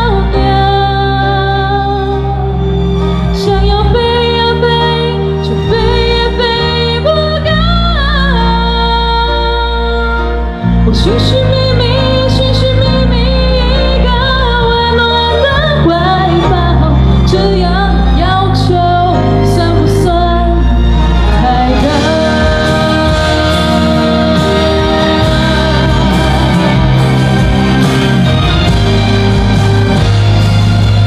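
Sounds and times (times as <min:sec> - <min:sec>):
woman singing into microphone: 0:00.0 - 0:02.7, 0:03.3 - 0:28.1
pop-rock backing track: 0:00.0 - 0:31.0.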